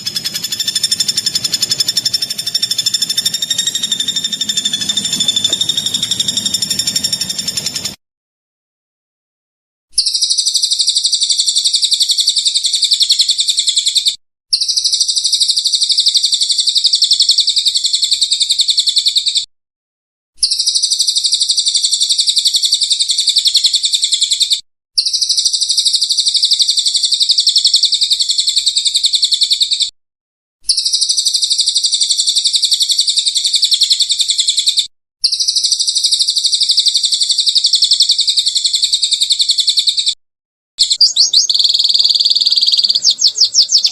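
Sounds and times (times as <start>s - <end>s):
songbird trill: 0.0s - 8.0s, 10.0s - 19.4s, 20.4s - 29.9s, 30.7s - 40.2s, 40.8s - 43.9s.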